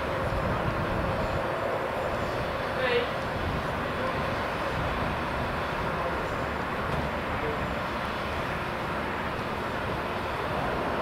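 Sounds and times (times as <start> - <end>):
crane engine drone: 0.0 - 11.0.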